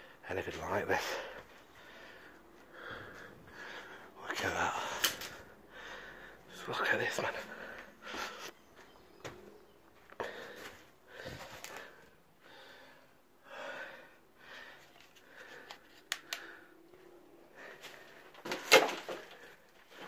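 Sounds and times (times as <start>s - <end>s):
person breathing heavily: 1.0s - 8.7s, 10.0s - 18.4s.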